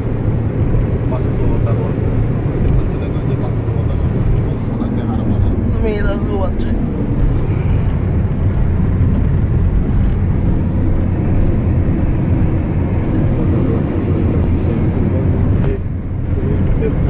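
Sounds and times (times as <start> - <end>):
car driving on road: 0.0 - 17.0
road and wind noise: 0.0 - 17.0.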